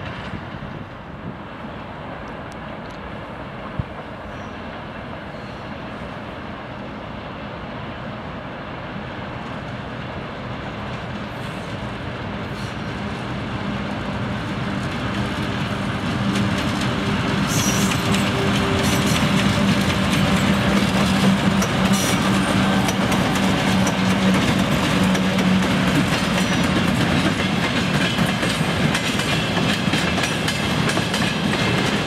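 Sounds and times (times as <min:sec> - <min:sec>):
diesel locomotive engine rumble: 0:00.0 - 0:32.0
rail noise: 0:00.0 - 0:32.0.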